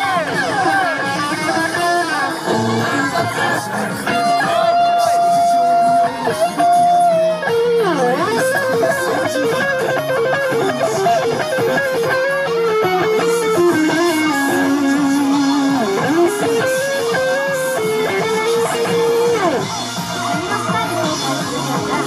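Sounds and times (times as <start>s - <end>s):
electric guitar melody: 0.0s - 22.0s.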